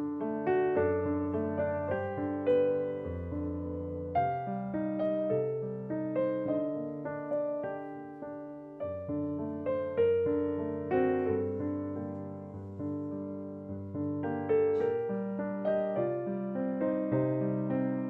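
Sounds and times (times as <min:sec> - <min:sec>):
gentle solo piano: 0:00.0 - 0:18.0.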